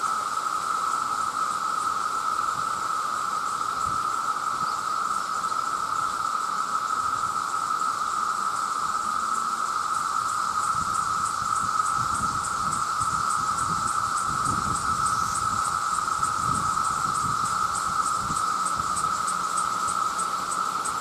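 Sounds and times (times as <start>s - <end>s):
cicadas chorus drone: 0.0s - 21.0s.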